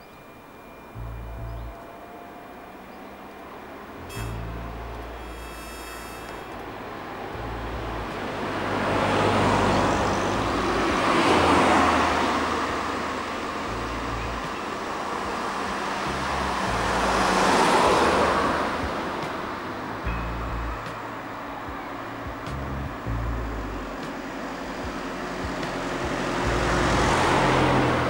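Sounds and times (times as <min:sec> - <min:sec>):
cars passing on road: 0:00.0 - 0:28.0.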